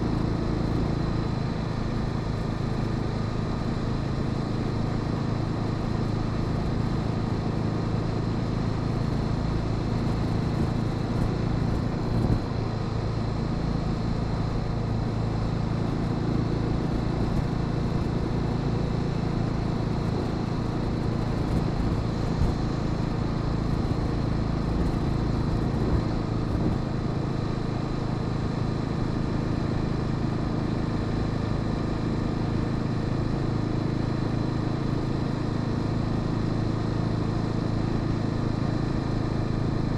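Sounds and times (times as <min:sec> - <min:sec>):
motorcycle engine running: 0:00.0 - 0:36.1
road and wind noise: 0:00.0 - 0:39.9.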